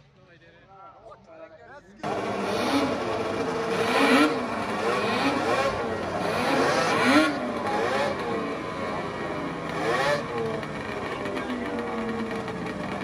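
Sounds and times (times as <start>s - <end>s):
snowmobile engines revving: 2.0s - 13.0s.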